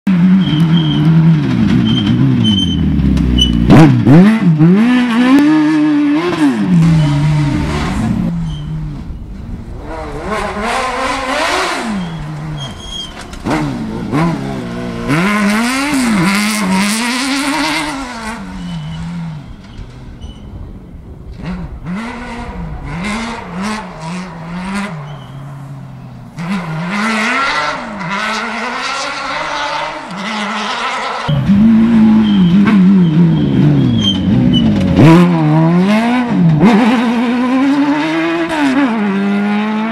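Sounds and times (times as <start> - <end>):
buggy engine revving past: 0.1 - 19.6, 21.3 - 39.9.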